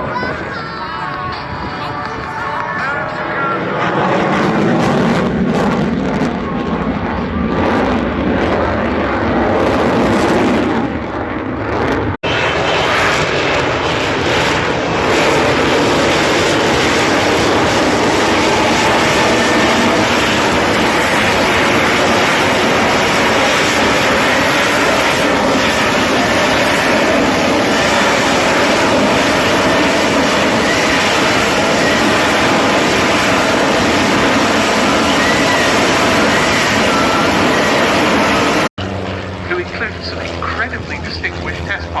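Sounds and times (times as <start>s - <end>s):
aircraft engine: 0.0s - 42.0s.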